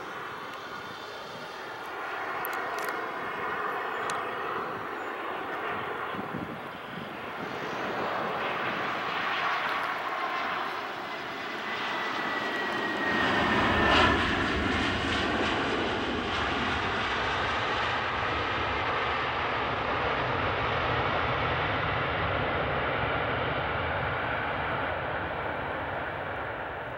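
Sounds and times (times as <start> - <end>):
jet airliner landing: 0.0 - 26.9.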